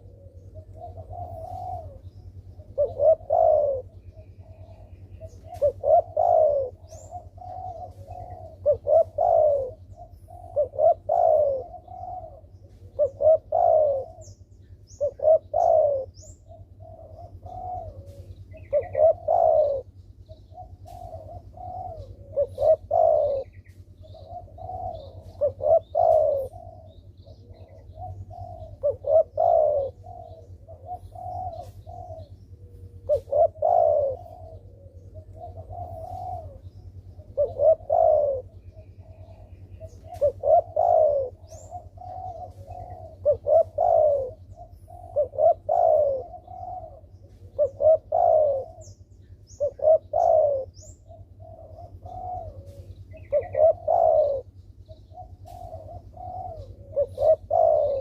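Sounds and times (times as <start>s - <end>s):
dove cooing: 0.0s - 58.0s
faint steady hum: 0.0s - 58.0s.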